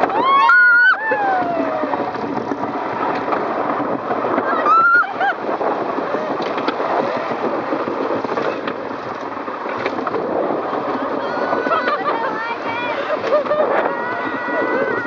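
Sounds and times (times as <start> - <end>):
roller coaster wheels rattling: 0.0 - 15.0
wind noise: 0.0 - 15.0.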